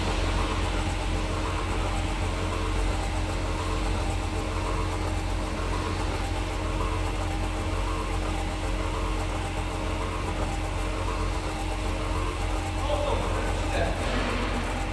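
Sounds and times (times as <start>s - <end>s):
electric pump motors humming: 0.0s - 14.9s.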